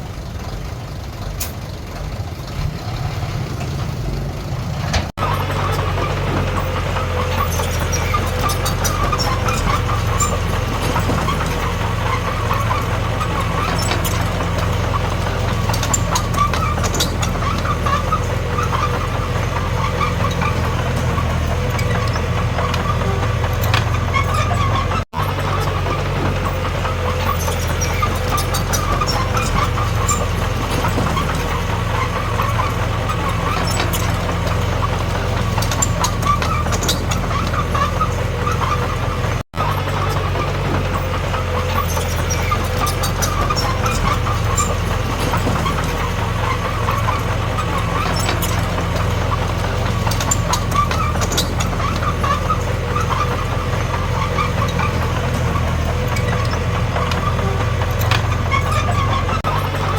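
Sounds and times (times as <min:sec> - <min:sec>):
bulldozer diesel engine running: 0:00.0 - 0:59.9
metallic clicks and clanks: 0:04.8 - 0:59.9.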